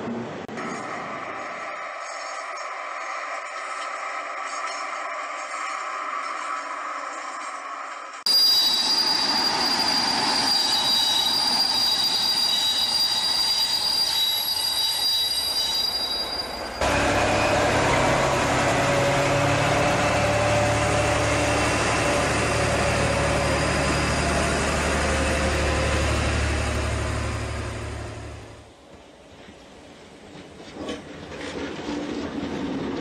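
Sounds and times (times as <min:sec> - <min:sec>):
diesel railcar engine running: 0:00.0 - 0:33.0
train rolling noise: 0:00.0 - 0:33.0
train wheel squeal: 0:00.6 - 0:28.5.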